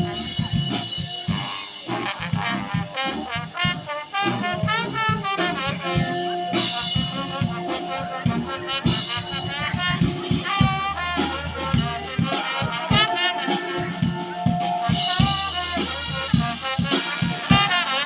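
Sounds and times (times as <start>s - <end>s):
steady drum beat: 0.0s - 18.0s
street brass band playing: 0.0s - 18.0s.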